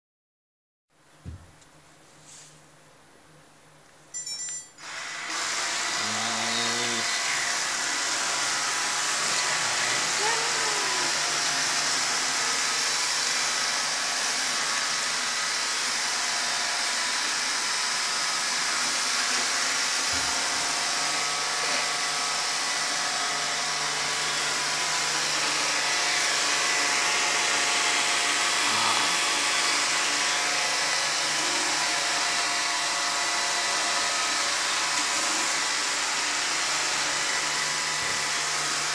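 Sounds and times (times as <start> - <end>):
robot vacuum whirring: 4.8 - 38.9.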